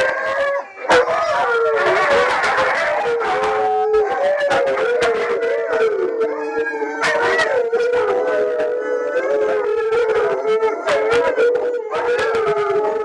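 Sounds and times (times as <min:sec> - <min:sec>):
dogs howling in chorus: 0:00.0 - 0:13.0.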